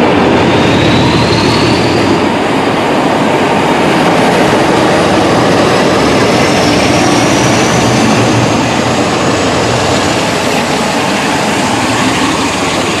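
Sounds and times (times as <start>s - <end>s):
diesel locomotive engines: 0.0s - 13.0s.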